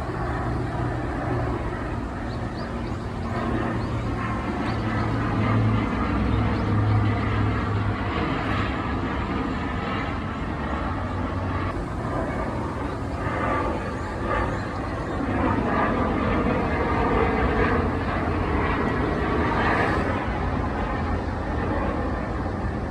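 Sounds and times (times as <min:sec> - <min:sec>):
airliner jet engines flying over: 0:00.0 - 0:22.9.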